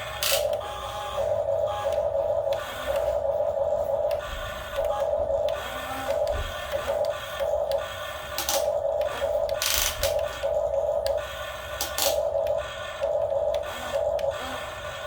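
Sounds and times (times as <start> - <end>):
small electric motors whirring: 0.0 - 15.0.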